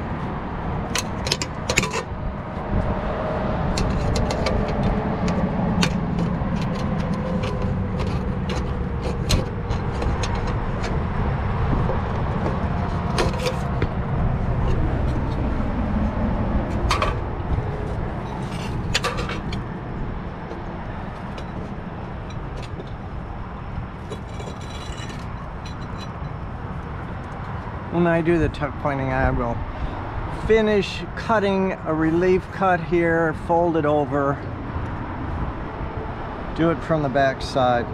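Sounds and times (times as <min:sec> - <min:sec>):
low outdoor rumble: 0:00.0 - 0:37.9.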